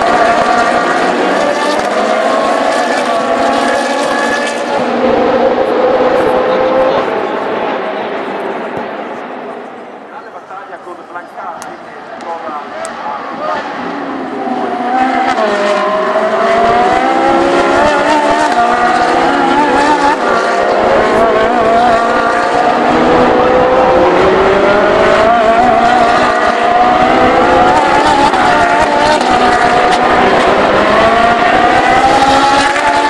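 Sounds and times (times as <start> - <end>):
race car engines passing: 0.0 - 33.0.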